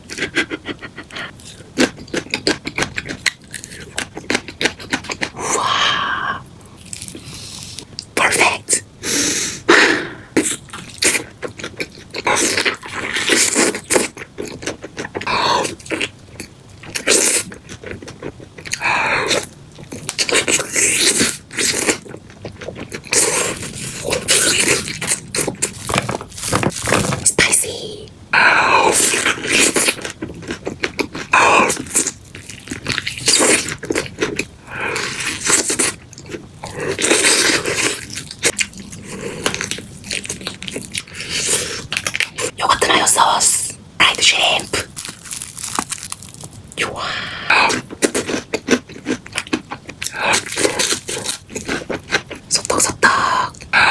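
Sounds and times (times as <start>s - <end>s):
chewing crispy fried chicken: 0.0s - 5.8s, 6.8s - 7.9s, 10.4s - 27.2s, 28.8s - 42.6s, 44.6s - 53.9s.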